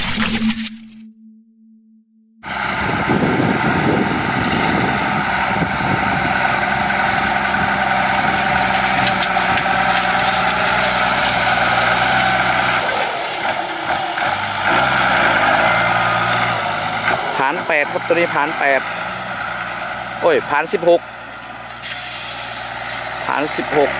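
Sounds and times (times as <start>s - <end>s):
tractor diesel engine running: 2.4s - 23.9s.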